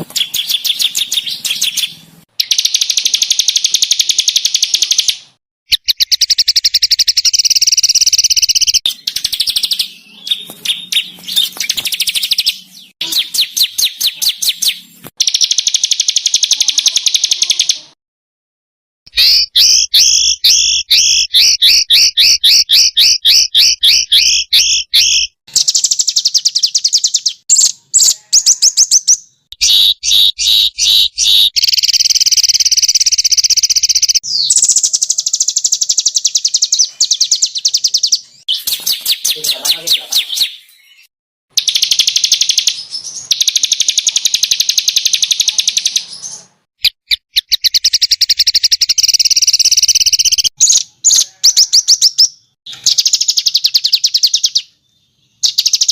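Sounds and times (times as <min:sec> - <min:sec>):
songbirds singing harsh notes: 0:00.0 - 0:18.0, 0:19.1 - 0:55.9.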